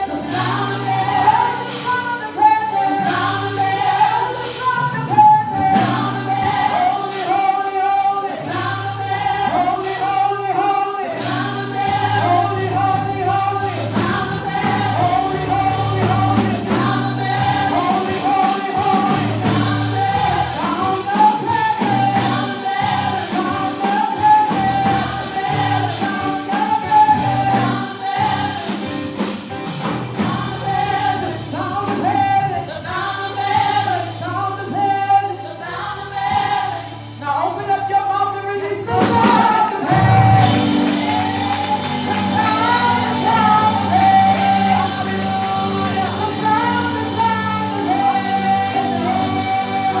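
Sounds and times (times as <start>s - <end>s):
band with bass and drums: 0.0s - 50.0s
singers: 0.0s - 50.0s.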